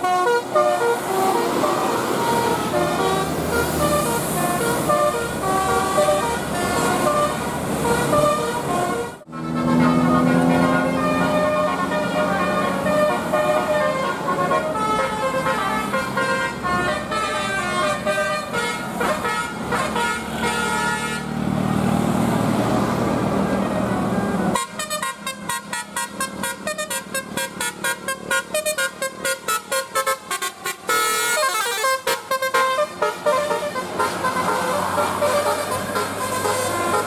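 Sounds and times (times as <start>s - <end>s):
musical air horn: 0.0s - 21.4s, 23.5s - 37.0s.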